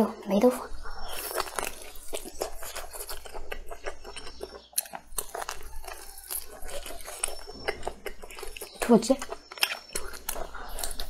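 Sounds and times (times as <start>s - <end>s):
chewing with mouth clicks and crunches: 0.0s - 11.0s.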